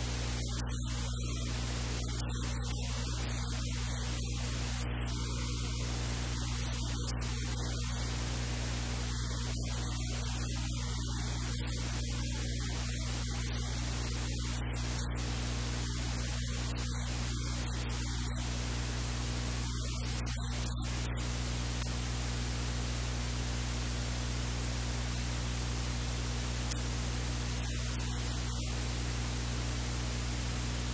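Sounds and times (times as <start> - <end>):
low electrical hum: 0.0 - 30.9
recording hiss: 0.0 - 30.9.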